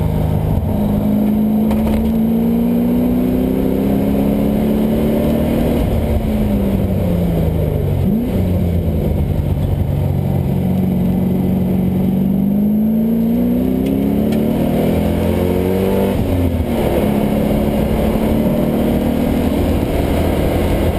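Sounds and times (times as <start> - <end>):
car engine revving: 0.0 - 20.9.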